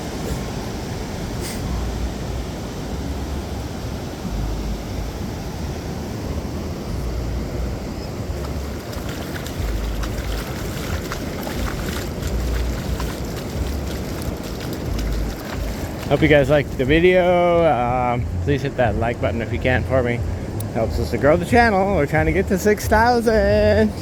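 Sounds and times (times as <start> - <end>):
ocean surf: 0.0 - 24.0
wind buffeting microphone: 0.0 - 24.0.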